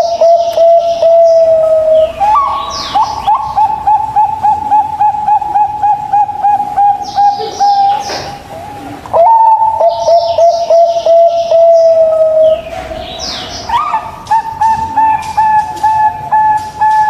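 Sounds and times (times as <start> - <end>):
dove cooing: 0.0 - 17.0
small birds chirping: 0.0 - 17.0.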